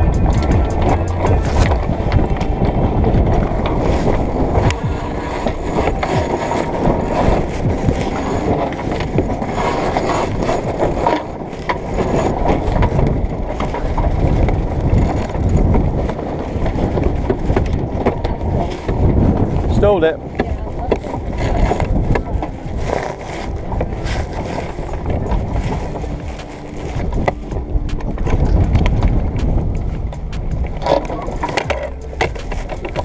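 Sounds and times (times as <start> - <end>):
heavy wind buffeting microphone: 0.0 - 33.0.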